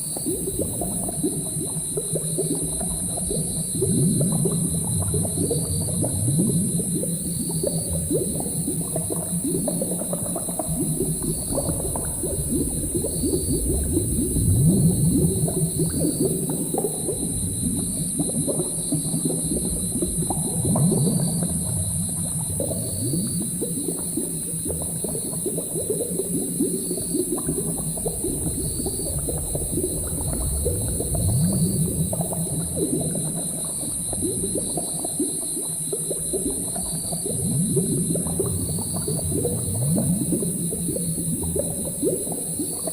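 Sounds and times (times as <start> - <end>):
low bubbling and gurgling: 0.0 - 42.9.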